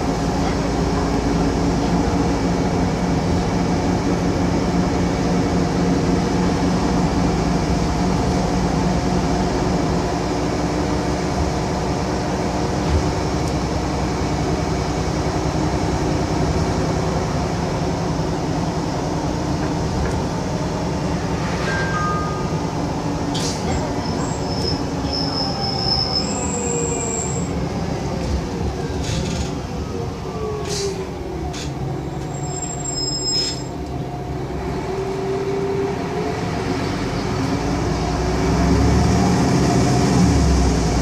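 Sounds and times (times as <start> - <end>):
bus engine drone: 0.0 - 41.0
road and tyre noise: 0.0 - 41.0.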